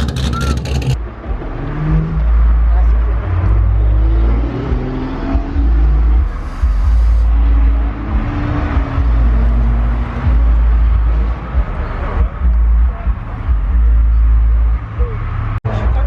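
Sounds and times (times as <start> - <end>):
car engines passing close by: 0.0 - 16.0.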